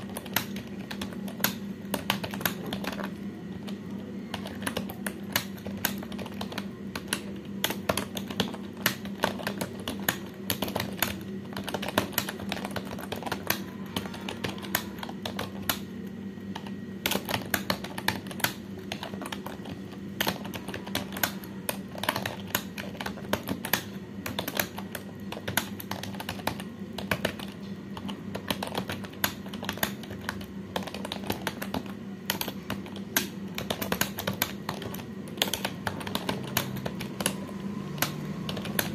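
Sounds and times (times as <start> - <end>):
keyboard typing: 0.0 - 38.9
steady low hum: 0.0 - 38.9.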